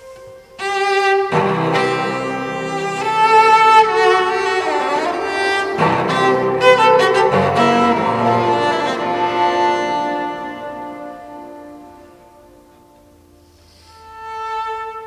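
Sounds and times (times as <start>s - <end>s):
bowed cello melody: 0.0s - 15.0s.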